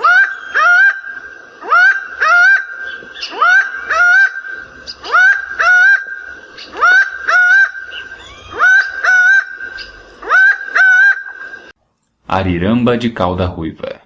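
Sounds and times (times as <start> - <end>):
falcon calling: 0.0 - 11.7.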